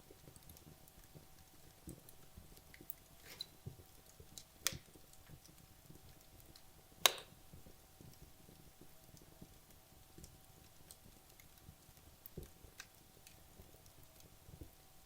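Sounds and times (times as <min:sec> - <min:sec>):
wood logs crackling in fireplace: 0:00.0 - 0:15.0
sharp snaps of burning wood: 0:00.1 - 0:14.4.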